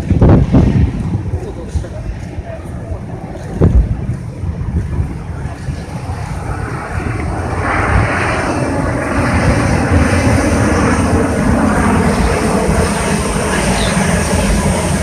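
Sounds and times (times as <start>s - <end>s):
gas turbines roaring: 0.0s - 15.0s
wind on microphone: 0.0s - 15.0s.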